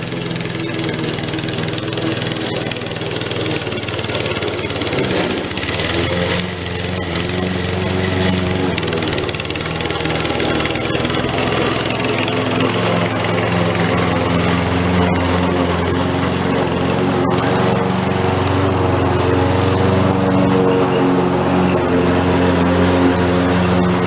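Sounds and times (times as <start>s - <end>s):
lawn mower engine cutting grass: 0.0s - 24.0s.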